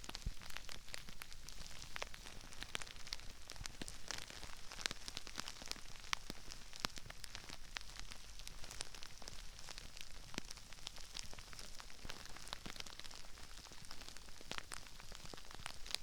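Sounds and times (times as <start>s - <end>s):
crispy rice crackling: 0.0s - 16.0s.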